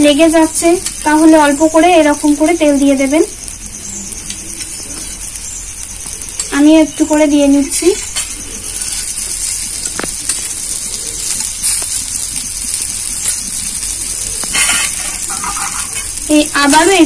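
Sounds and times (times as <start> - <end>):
bread sizzling in oil: 0.0 - 17.0.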